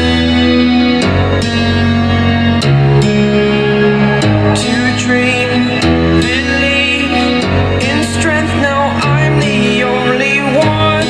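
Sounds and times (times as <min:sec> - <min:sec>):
song with guitar and singing: 0:00.0 - 0:11.0
steady bass line: 0:00.0 - 0:11.0.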